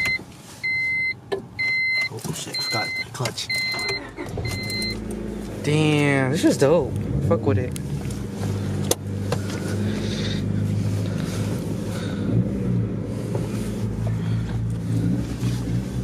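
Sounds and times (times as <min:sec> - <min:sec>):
car engine running: 0:02.2 - 0:16.0.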